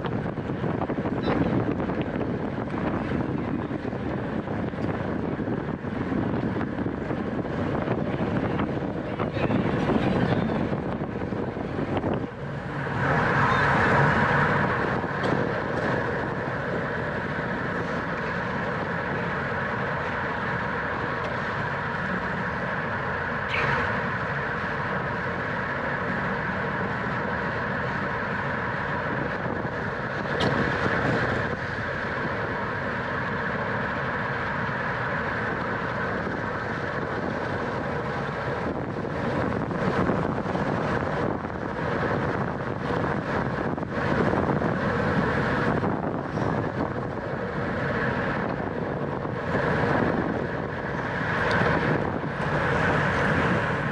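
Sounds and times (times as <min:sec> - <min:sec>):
bicycle tyres rolling: 0:00.0 - 0:53.9
rushing wind: 0:00.0 - 0:53.9.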